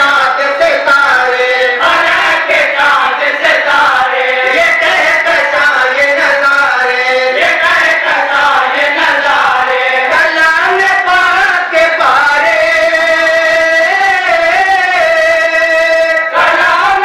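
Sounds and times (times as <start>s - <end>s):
men chanting into a microphone: 0.0s - 17.0s.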